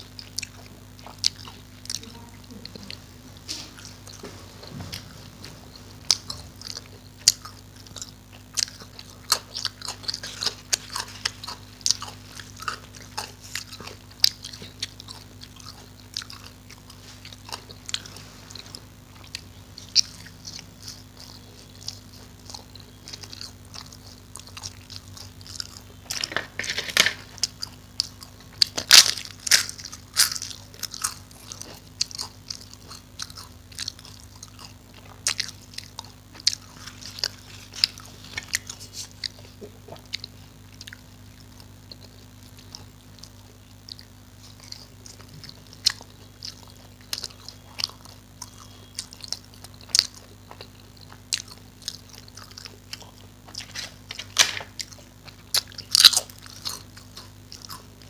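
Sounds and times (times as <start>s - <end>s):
faint low hum: 0.0s - 58.0s
person chewing crunchy food: 0.0s - 58.0s.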